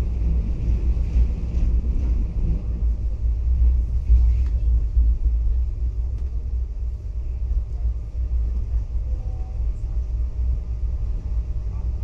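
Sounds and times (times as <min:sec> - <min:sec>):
train rumbling inside coach: 0:00.0 - 0:12.0.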